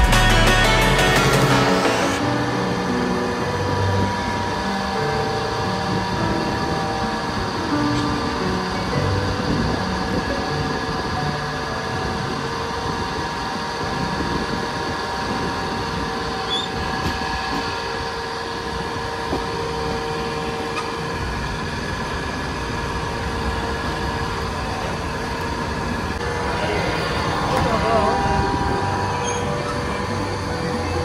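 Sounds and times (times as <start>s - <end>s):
steady humming tones: 0.0s - 31.0s
train rumble and rattle: 0.0s - 31.0s.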